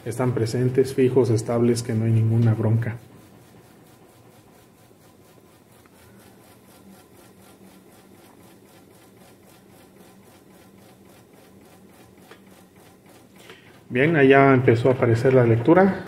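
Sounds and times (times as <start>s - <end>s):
washing machine tub spinning down: 0.0s - 16.0s.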